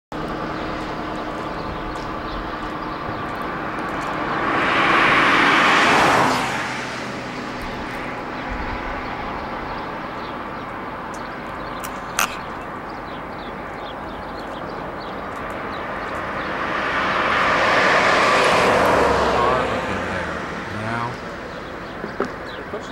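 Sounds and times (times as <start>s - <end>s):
street traffic: 0.1s - 22.9s
vehicle passing close by: 0.2s - 22.9s.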